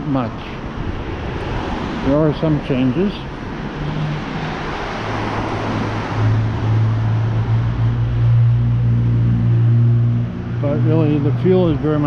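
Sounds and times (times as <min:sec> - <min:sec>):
low engine hum: 0:00.0 - 0:12.0
vehicle passing with tyre noise: 0:00.1 - 0:12.0.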